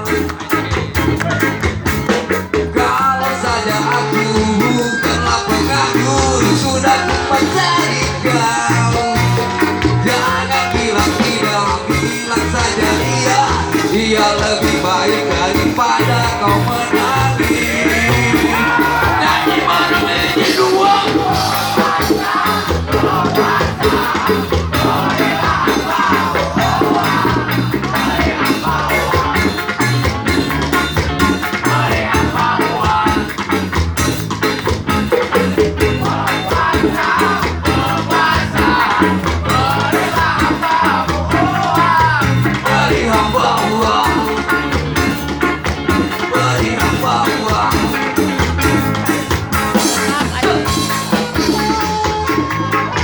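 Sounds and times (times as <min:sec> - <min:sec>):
reggae band music: 0:00.0 - 0:53.0.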